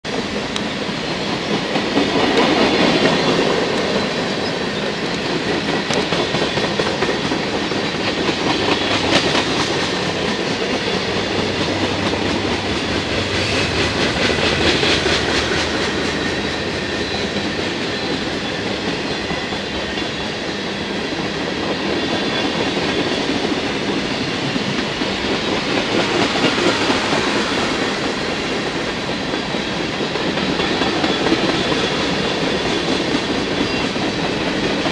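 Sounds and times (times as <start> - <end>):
freight train rumbling and clattering: 0.0 - 34.9.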